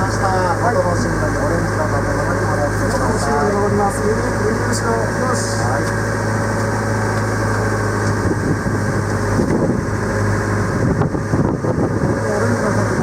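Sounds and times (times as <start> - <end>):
motorboat engine humming: 0.0 - 13.0.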